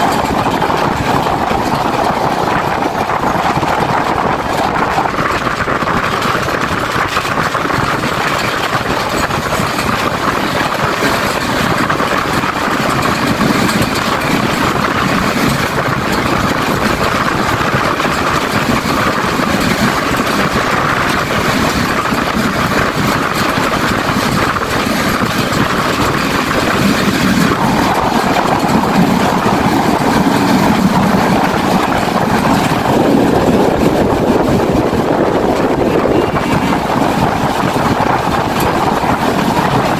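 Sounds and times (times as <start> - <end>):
rushing air: 0.0 - 39.9
train wheels rumbling on rails: 0.0 - 39.9.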